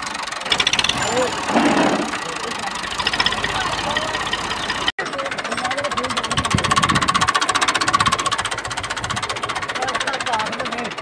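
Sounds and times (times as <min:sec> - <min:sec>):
engine running with even knock: 0:00.0 - 0:11.0
voices: 0:00.5 - 0:07.2, 0:08.0 - 0:11.0.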